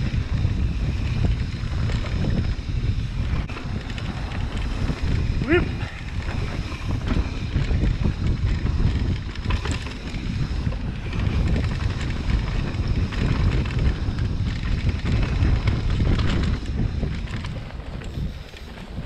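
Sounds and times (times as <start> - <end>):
bike clicks and rattles: 0.0 - 19.0
tyres rumbling on dirt trail: 0.0 - 19.0
wind buffeting microphone: 0.0 - 19.0.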